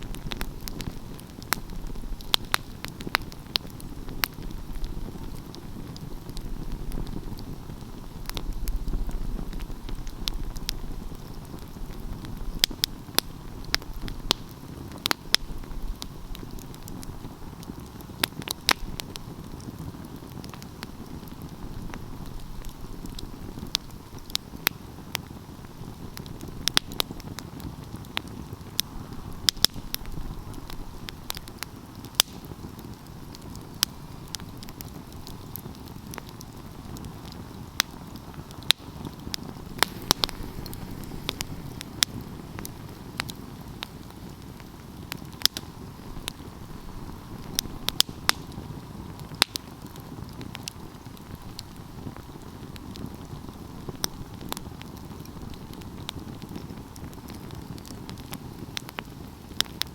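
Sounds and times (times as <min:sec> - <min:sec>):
fire crackling and popping: 0:00.0 - 0:59.9
fire rushing: 0:00.0 - 0:59.9.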